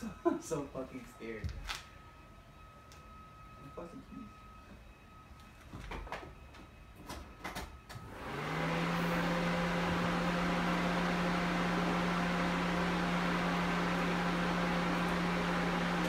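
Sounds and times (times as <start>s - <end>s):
radiator cooling fan whining: 0.0s - 16.0s.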